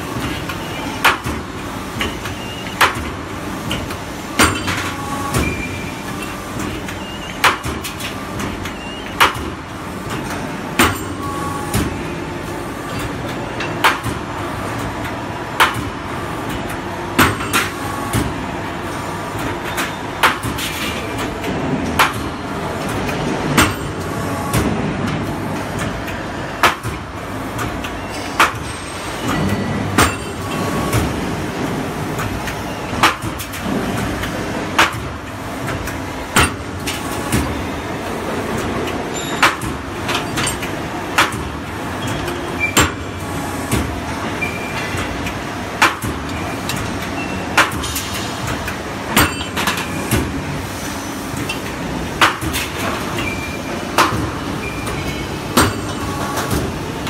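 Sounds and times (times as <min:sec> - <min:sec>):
machine running noise: 0:00.0 - 0:57.0.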